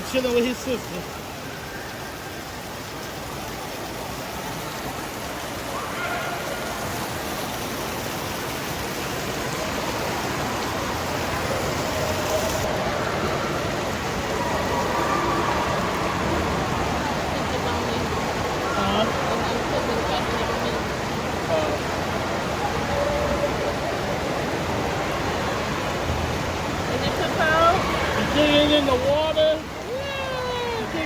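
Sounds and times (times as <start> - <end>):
faint voices of swimmers: 0.0 - 31.0
splashing and falling water: 0.0 - 31.0.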